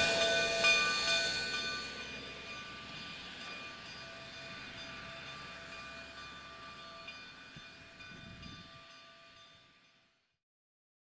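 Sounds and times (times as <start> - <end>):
steam locomotive high tones: 0.0 - 10.2.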